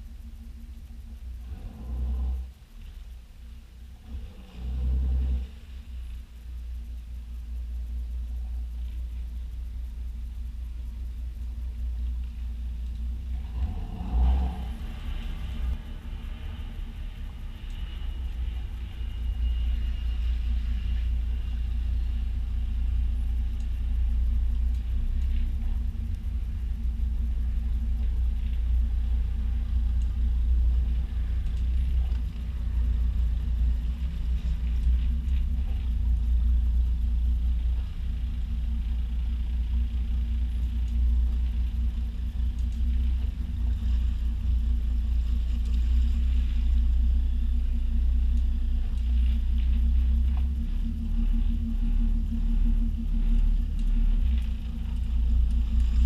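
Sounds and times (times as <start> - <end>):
boat diesel engines rumbling: 0.0 - 56.0.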